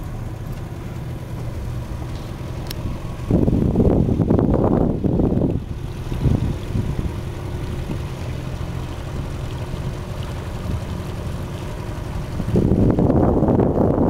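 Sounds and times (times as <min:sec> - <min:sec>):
boat motor humming: 0:00.0 - 0:14.0
wind gusts on microphone: 0:01.5 - 0:09.2, 0:09.8 - 0:14.0.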